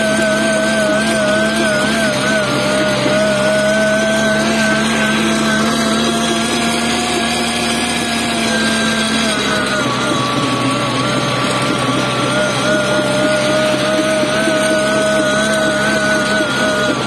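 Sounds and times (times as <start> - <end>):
high-pitched whine: 0.0 - 17.0
tractor engine running: 0.0 - 17.0.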